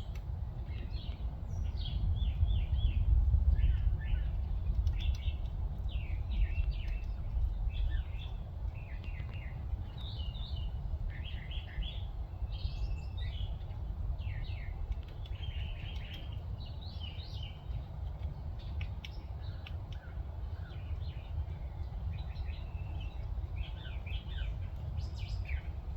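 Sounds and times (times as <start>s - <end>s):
low rumble: 0.0s - 25.9s
songbirds chirping: 0.0s - 25.9s.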